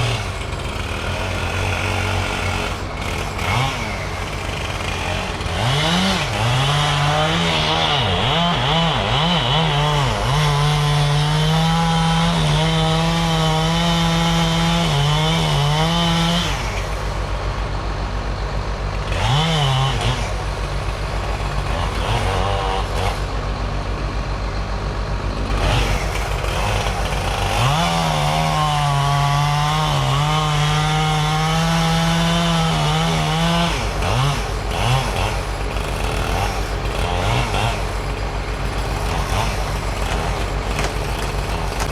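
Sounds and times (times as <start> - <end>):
chainsaw cutting wood: 0.0 - 17.5, 18.9 - 23.5, 25.4 - 41.9
chainsaw idling: 0.0 - 41.9
low engine throb: 0.0 - 41.9.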